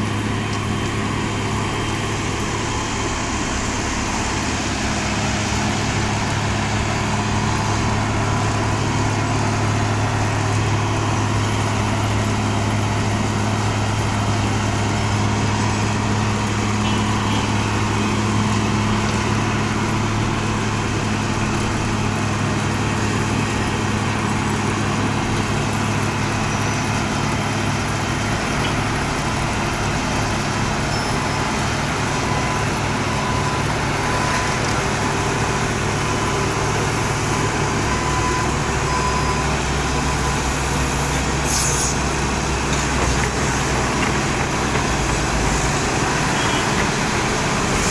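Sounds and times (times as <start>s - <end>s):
heavy machinery engine running: 0.0s - 47.9s.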